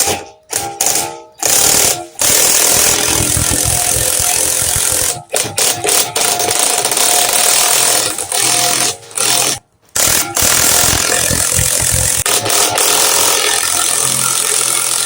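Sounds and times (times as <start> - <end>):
impact wrench running: 0.0 - 15.0.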